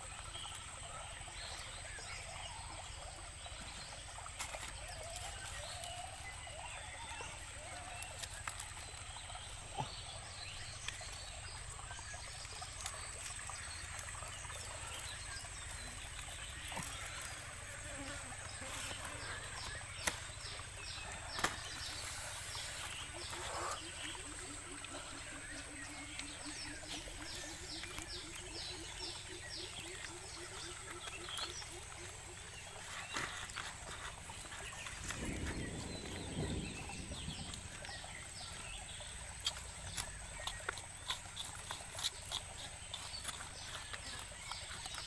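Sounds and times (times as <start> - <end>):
insects humming: 0.0 - 45.0.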